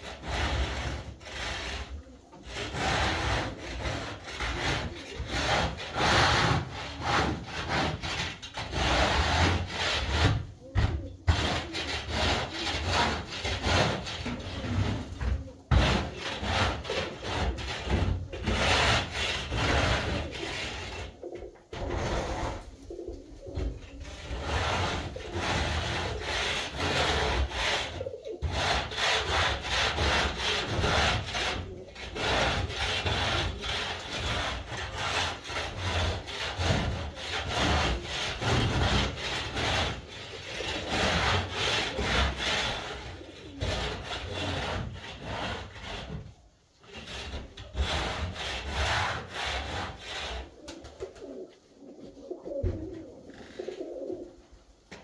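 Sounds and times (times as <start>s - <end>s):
pigeons cooing: 0.0s - 45.0s, 50.0s - 54.6s
scraping and rubbing noise: 0.0s - 55.0s.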